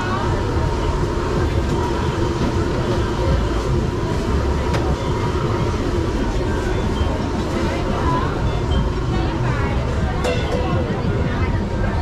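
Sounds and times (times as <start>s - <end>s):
indistinct chatter: 0.0s - 12.0s
low rumble of crowd: 0.0s - 12.0s.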